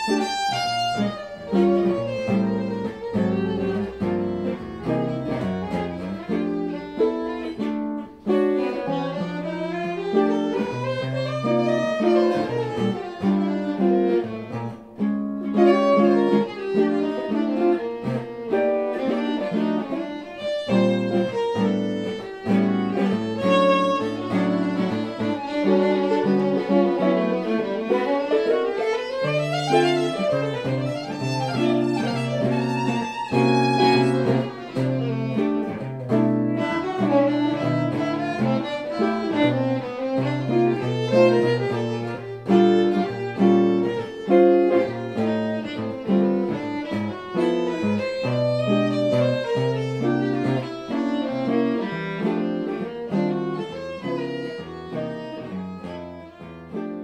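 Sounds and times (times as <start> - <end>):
electric guitar chords: 0.0 - 56.7
bowed violin melody: 0.0 - 57.0.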